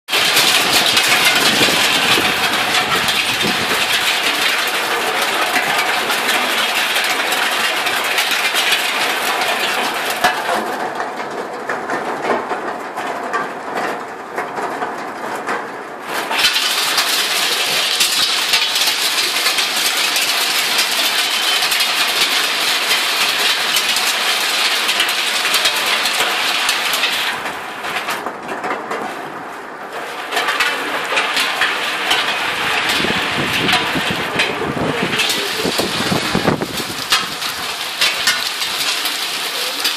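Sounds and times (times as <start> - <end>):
hail clattering on hard surfaces: 0.1 - 39.9
rain: 0.1 - 39.9.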